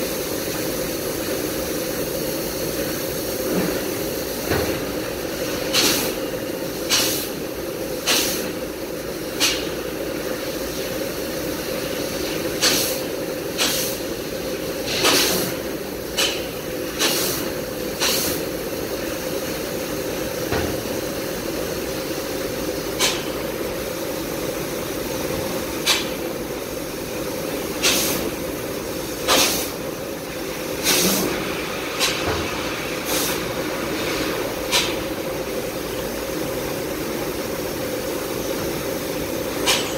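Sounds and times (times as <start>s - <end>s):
laser cutter hisses: 0.0s - 39.9s.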